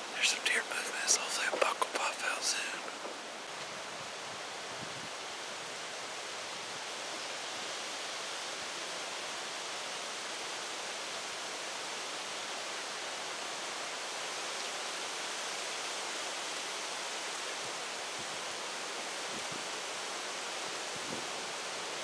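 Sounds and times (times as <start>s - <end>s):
strong wind through trees: 0.0s - 22.0s.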